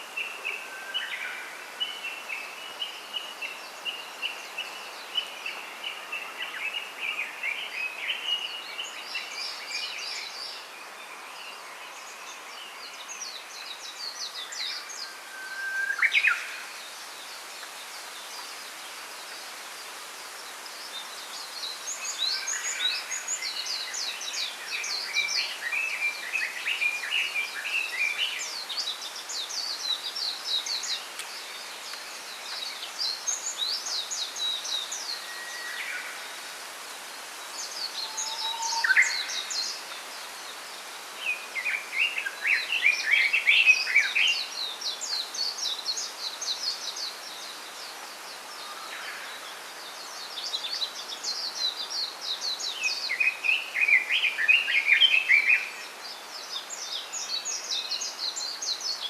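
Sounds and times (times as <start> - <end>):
background hiss: 0.0 - 59.0
songbirds chirping and twittering: 0.0 - 59.0.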